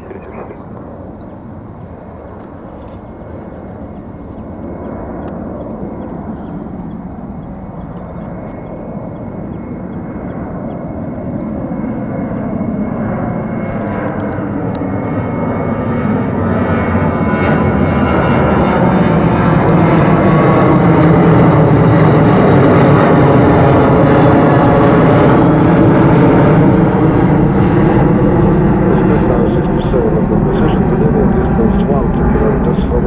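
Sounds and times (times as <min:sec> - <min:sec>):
jet engines at climb thrust: 0:00.0 - 0:33.0.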